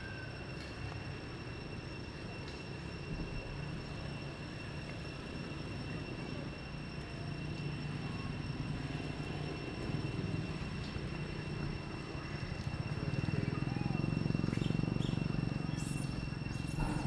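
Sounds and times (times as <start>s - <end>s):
steady low rumble: 1.0s - 17.0s.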